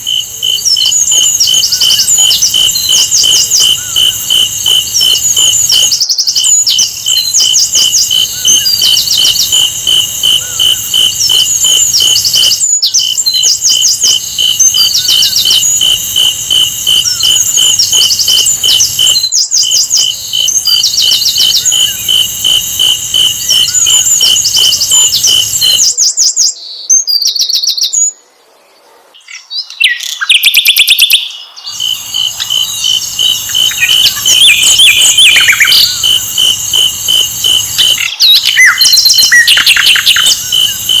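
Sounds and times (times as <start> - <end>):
fast pulsing tone: 0.0 - 6.0, 6.6 - 25.8, 31.8 - 41.0
flycatcher chirpy song: 0.0 - 26.4, 29.4 - 41.0.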